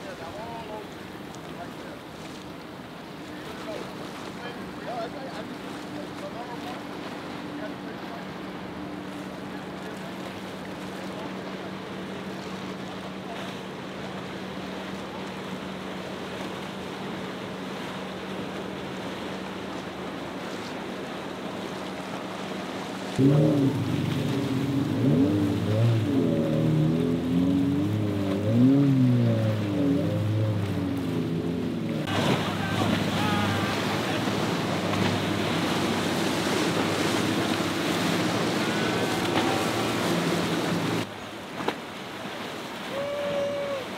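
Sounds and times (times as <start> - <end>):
motorboat engine hum: 0.0 - 43.9
water spray and wake rushing: 0.0 - 43.9
waves breaking: 0.0 - 43.9.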